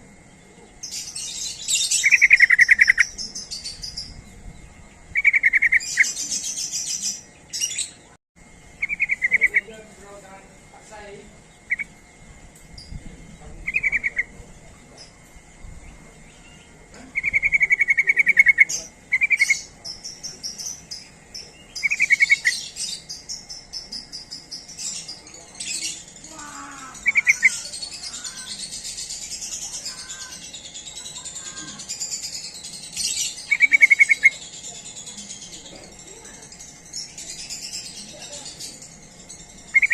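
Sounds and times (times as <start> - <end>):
faint insect-like hiss: 0.0 - 39.9
bird rattling trills: 0.1 - 39.9
high-pitched bird chattering: 0.8 - 8.1, 8.8 - 9.9, 11.0 - 12.0, 12.8 - 15.2, 16.3 - 39.9.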